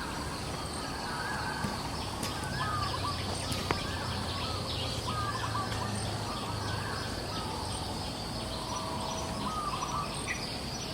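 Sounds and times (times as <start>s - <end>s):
birds chirping: 0.0s - 10.9s
high insect drone: 0.0s - 10.9s.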